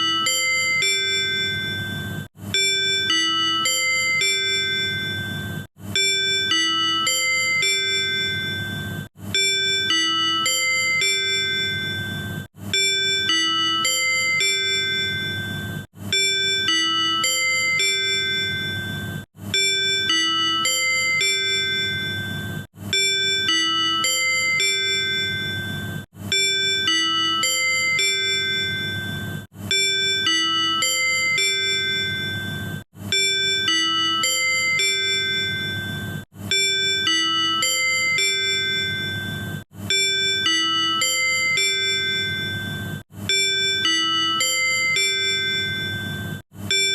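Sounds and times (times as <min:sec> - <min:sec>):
bell-like chime melody: 0:00.0 - 0:46.9.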